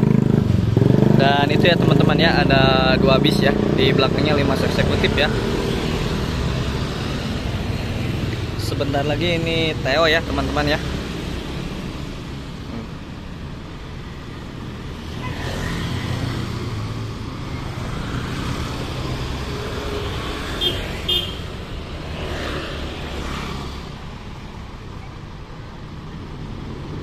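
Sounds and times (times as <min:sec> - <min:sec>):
motorcycles passing: 0:00.0 - 0:27.0.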